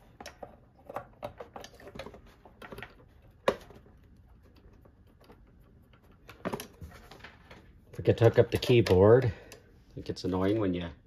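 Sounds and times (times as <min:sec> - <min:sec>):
cable plugs clicking and rattling: 0:00.0 - 0:09.7.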